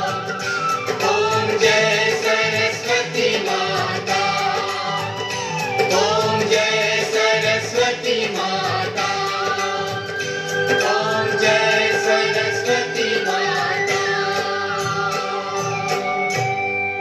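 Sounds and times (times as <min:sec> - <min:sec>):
instrumental backing: 0:00.0 - 0:17.0
voices singing long held notes: 0:00.0 - 0:17.0.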